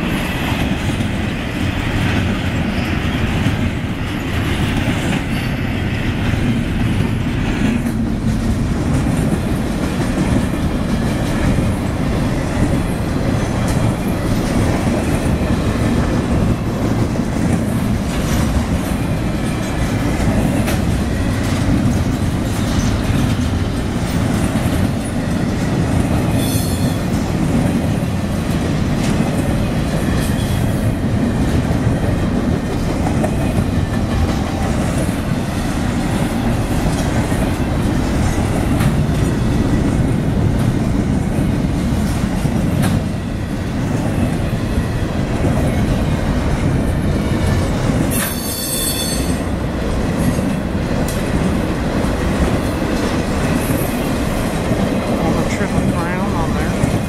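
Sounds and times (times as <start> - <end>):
clickety-clack of wheels: 0.0 - 57.0
train wheels rumbling on rails: 0.0 - 57.0.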